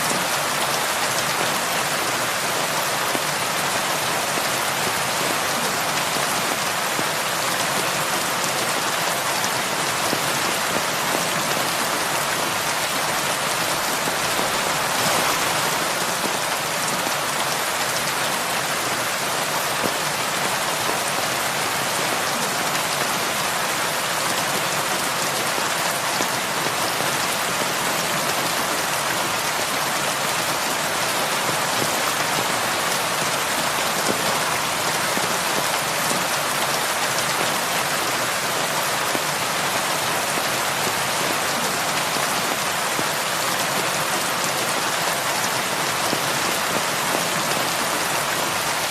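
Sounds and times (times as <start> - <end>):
heavy rain on a roof: 0.0 - 48.9.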